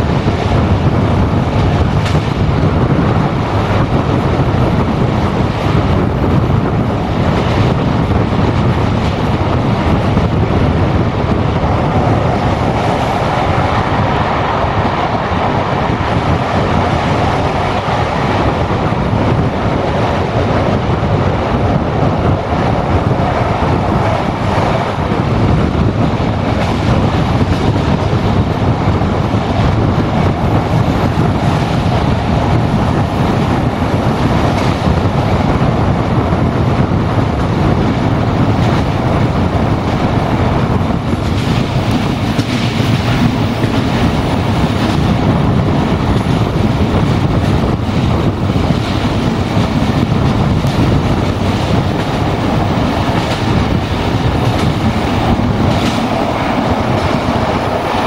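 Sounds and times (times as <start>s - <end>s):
train wheels rolling on track: 0.0s - 58.0s
wind rushing over microphone: 0.0s - 58.0s.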